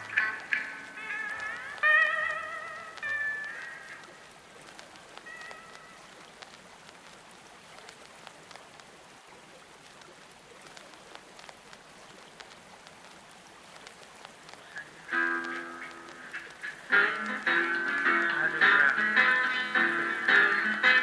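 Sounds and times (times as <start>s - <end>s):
faint crackling clicks: 0.0s - 21.0s
soft rain-like water ambience: 0.0s - 21.0s.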